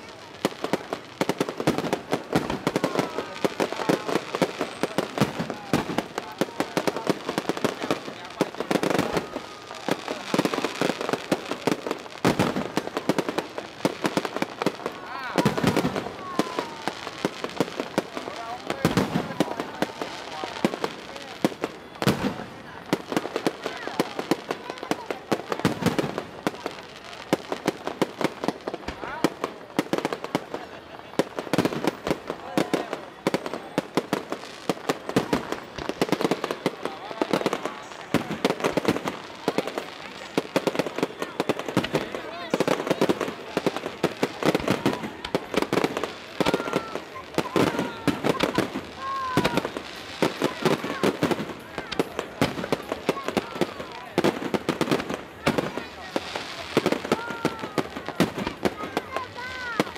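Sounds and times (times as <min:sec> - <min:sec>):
crowd voices: 0:00.0 - 0:59.9
fireworks bangs and crackles: 0:00.0 - 0:59.9.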